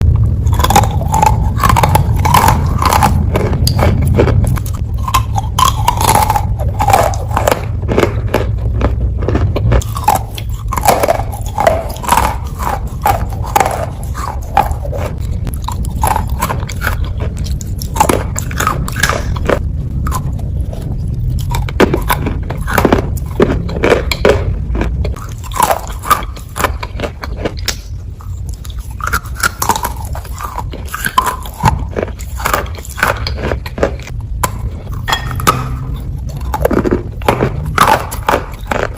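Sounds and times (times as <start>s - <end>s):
steady low hum: 0.0s - 38.9s
clay being chewed: 0.4s - 38.9s.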